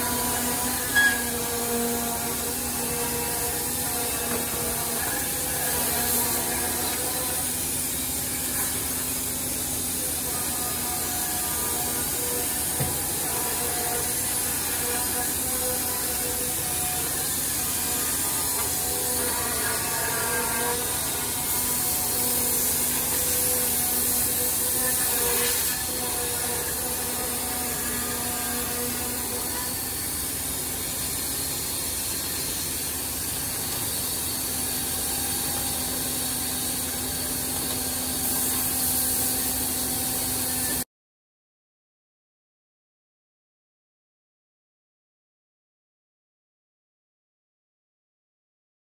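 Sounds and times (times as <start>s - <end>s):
saw blade hissing through wood: 0.0s - 40.8s
saw motor hum: 0.0s - 40.8s.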